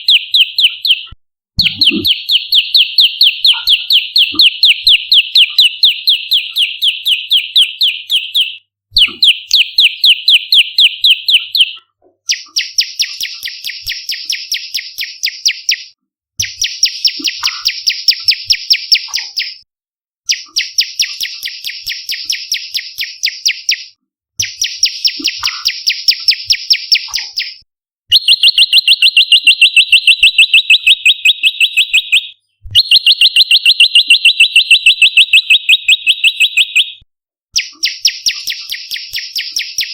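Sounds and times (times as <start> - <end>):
bird chirping rapidly: 0.0 - 19.6, 20.3 - 37.0, 37.6 - 39.9.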